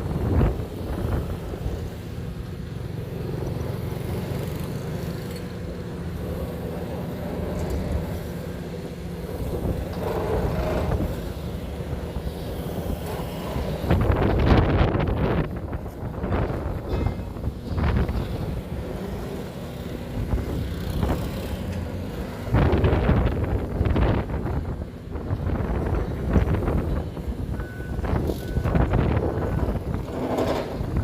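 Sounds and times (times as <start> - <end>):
excavator engine and machinery: 0.0 - 31.0.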